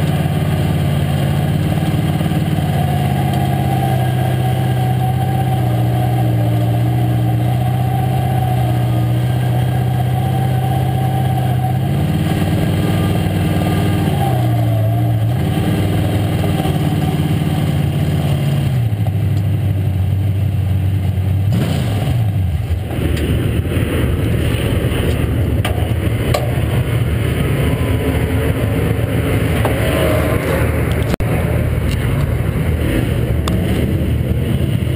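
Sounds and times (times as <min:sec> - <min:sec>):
race car engine revving: 0:00.0 - 0:34.9
rough engine rumble: 0:00.0 - 0:34.9.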